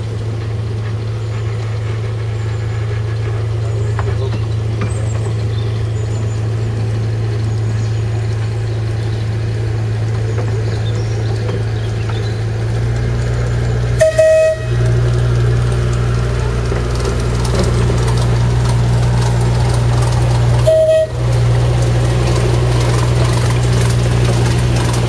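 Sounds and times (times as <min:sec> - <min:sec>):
diesel locomotive engine hum: 0:00.0 - 0:25.0.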